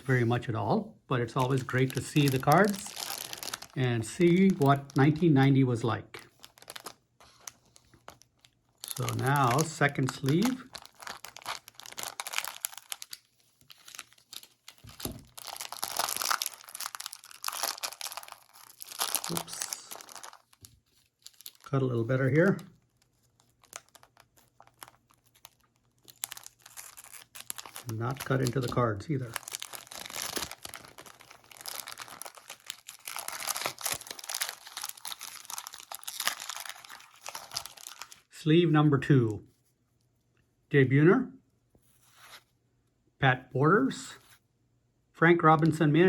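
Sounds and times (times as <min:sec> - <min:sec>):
plastic wrapper crinkling: 0:01.2 - 0:38.3.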